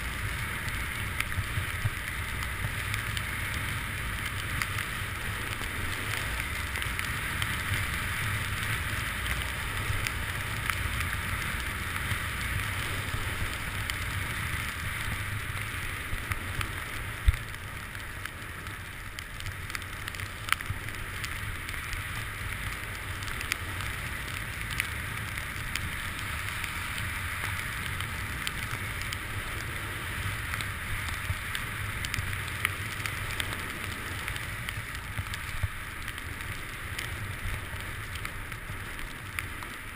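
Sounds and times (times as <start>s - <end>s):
skis scraping over snow: 0.0s - 39.9s
wind rumble on microphone: 0.0s - 39.9s.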